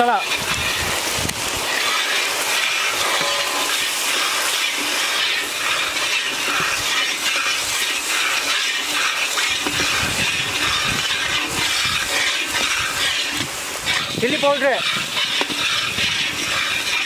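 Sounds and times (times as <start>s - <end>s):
hot oil sizzling: 0.0s - 17.0s
spatula scraping iron pan: 0.0s - 17.0s.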